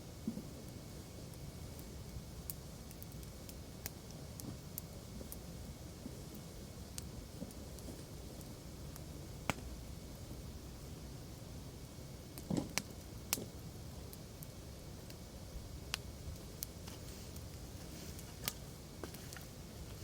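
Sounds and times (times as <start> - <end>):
campfire popping: 0.0 - 20.0
fire burning: 0.0 - 20.0.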